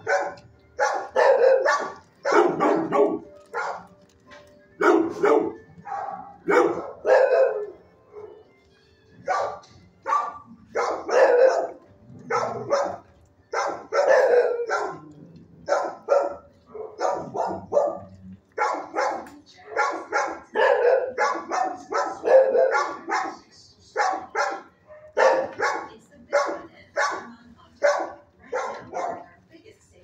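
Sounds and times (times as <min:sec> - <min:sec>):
dogs barking: 0:00.0 - 0:04.0, 0:04.7 - 0:08.6, 0:09.2 - 0:29.4.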